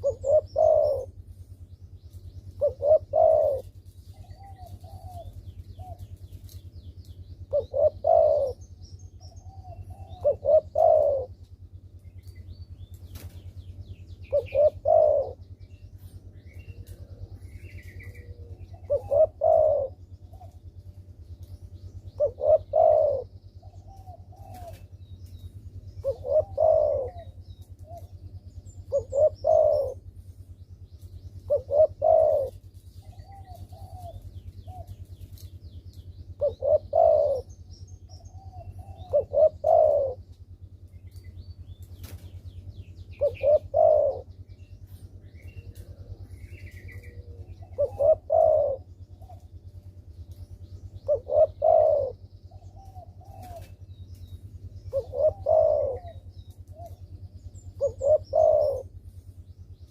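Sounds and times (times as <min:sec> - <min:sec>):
dove cooing: 0:00.0 - 0:12.4, 0:13.0 - 0:41.4, 0:42.0 - 0:59.9
small birds chirping: 0:00.0 - 0:59.9
steady low hum: 0:00.0 - 0:59.9.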